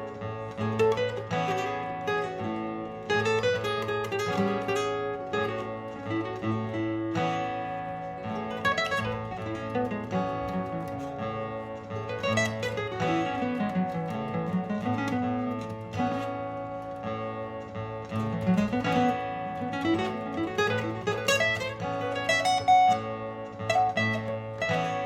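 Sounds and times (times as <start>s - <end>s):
looped acoustic guitar: 0.0s - 25.0s.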